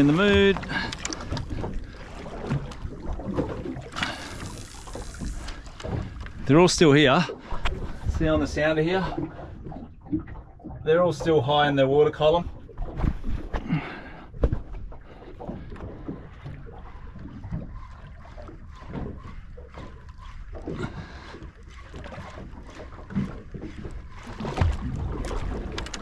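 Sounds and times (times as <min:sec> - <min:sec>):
water sloshing against boat hull: 0:00.0 - 0:26.0.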